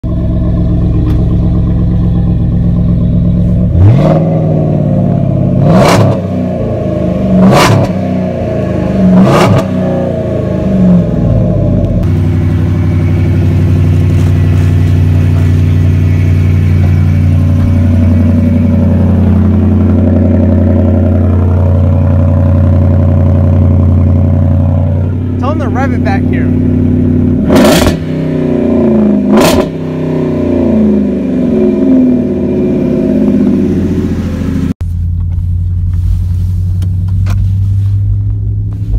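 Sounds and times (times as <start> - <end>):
pickup engine revving loud exhaust: 0.1 - 34.8.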